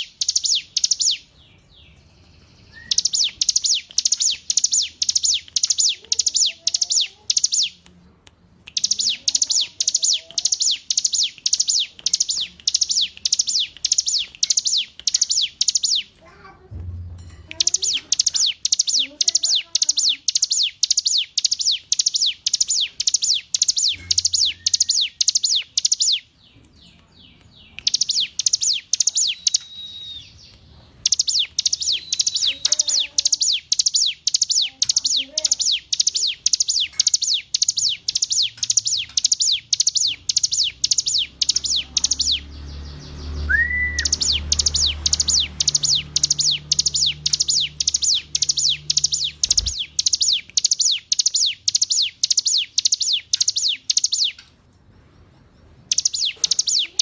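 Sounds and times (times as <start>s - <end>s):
bird singing sharp high notes: 0.0s - 7.8s, 8.8s - 16.2s, 17.5s - 26.3s, 27.6s - 54.4s, 55.9s - 57.0s.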